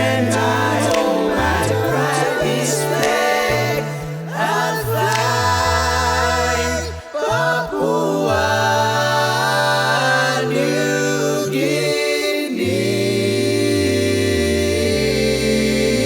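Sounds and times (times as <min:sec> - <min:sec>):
male a cappella harmonies: 0:00.0 - 0:16.0.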